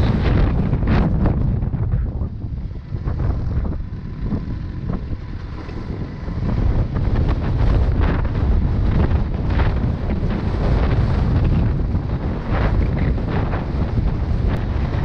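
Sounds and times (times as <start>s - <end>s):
gravel crackles: 0.0s - 15.0s
motorcycle engine and tyre noise: 0.0s - 15.0s
wind buffeting microphone: 0.0s - 15.0s.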